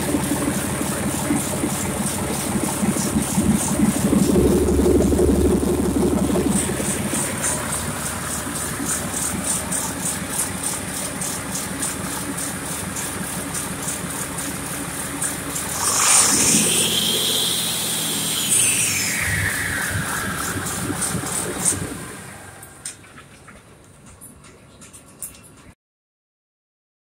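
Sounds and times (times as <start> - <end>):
turbocharger whine: 0.0 - 23.2
diesel engine idling and revving: 0.0 - 23.3.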